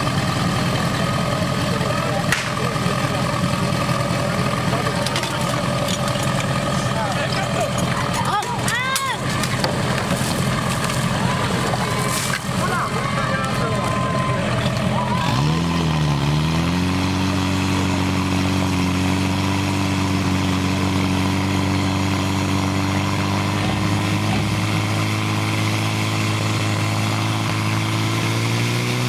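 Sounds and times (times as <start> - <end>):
pump engine running at high revs: 0.0 - 29.0.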